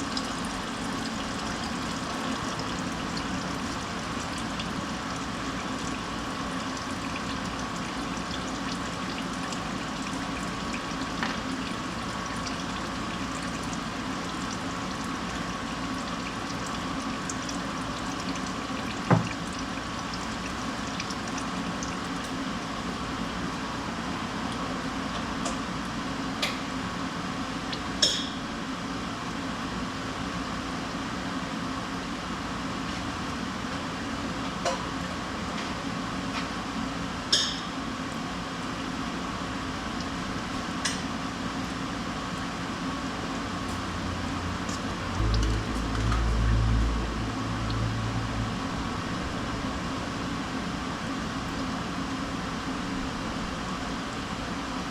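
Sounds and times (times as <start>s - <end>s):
oil pouring in a stream: 0.0s - 26.4s, 37.2s - 54.9s.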